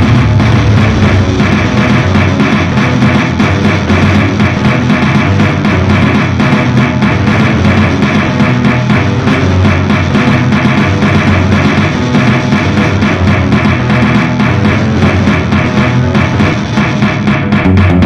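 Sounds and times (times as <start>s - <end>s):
electronic noise music: 0.0s - 18.0s.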